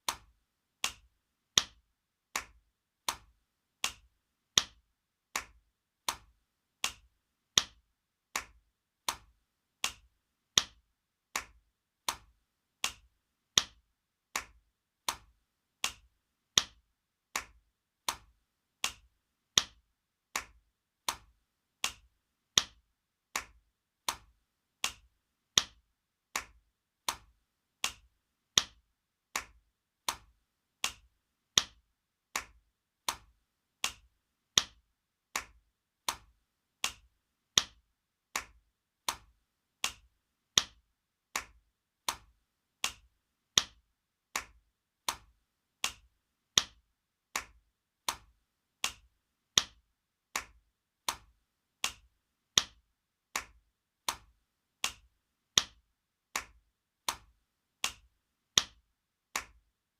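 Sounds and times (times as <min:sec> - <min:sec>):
hand slapping skin: 0:00.0 - 0:55.8, 0:56.4 - 0:58.8, 0:59.4 - 0:59.6.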